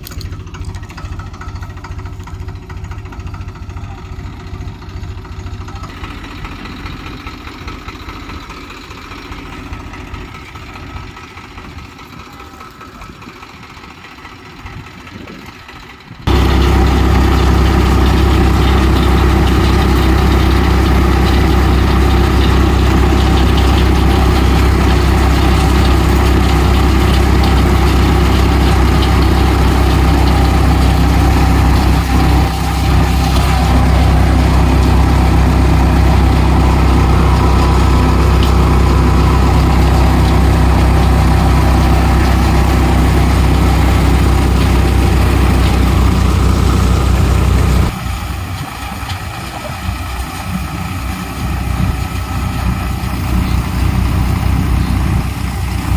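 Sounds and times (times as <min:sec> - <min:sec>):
thresher running: 0:00.0 - 0:55.9
tractor diesel engine rumbling: 0:00.0 - 0:55.9.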